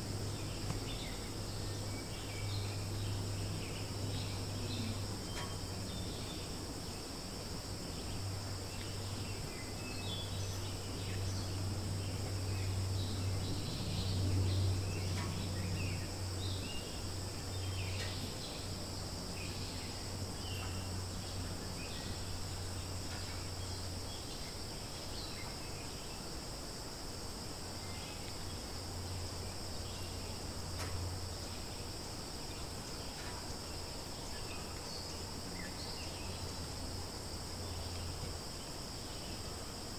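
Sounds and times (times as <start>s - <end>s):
insect chorus droning: 0.0s - 39.9s
low steady hum: 0.0s - 39.9s.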